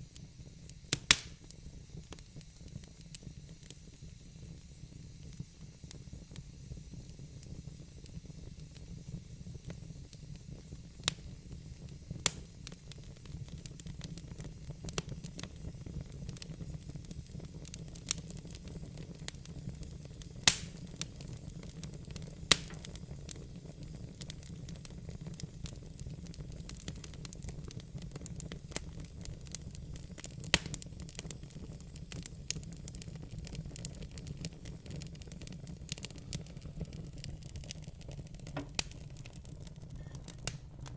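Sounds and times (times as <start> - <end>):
fire rumbling: 0.0 - 40.9
logs crackling and popping: 0.6 - 3.8, 9.7 - 40.9.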